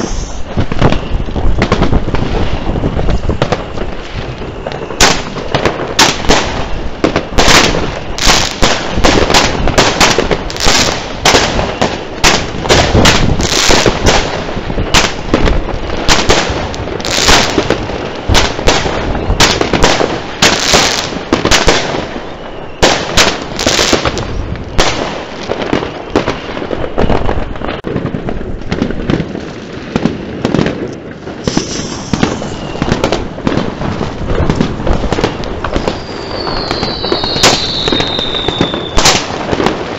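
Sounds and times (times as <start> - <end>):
firework rocket whistle: 0.0 - 25.1, 25.7 - 27.9, 31.3 - 39.8
fireworks bangs and crackles: 0.0 - 39.9.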